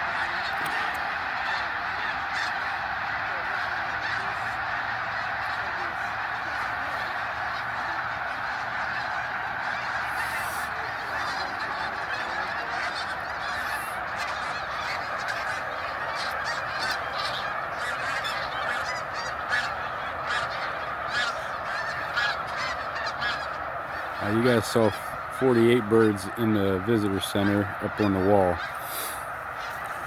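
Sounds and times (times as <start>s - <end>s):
flock of geese honking: 0.0s - 30.0s
nearer goose calls: 0.0s - 30.0s.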